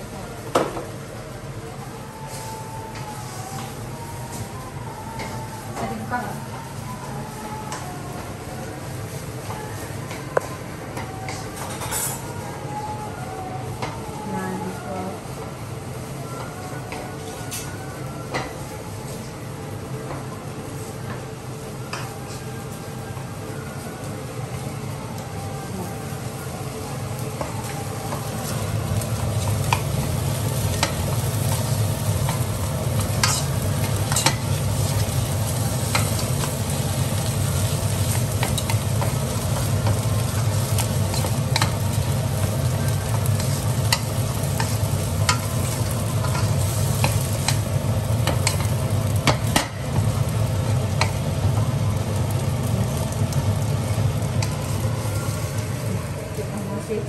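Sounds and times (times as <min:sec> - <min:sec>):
rice sizzling in a wok: 0:00.0 - 0:57.0.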